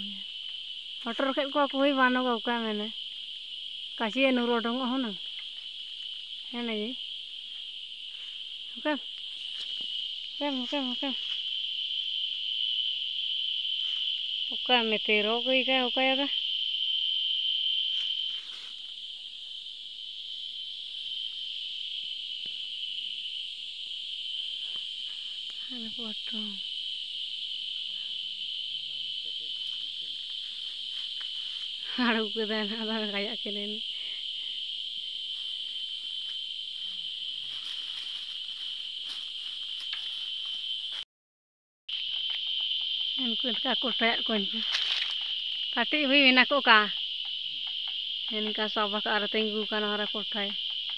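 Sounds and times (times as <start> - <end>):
high-pitched insect drone: 0.0 - 41.0, 41.9 - 50.9.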